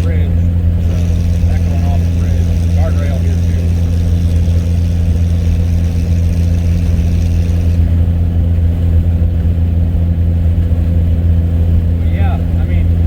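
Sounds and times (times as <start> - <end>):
truck exhaust drone: 0.0 - 13.0.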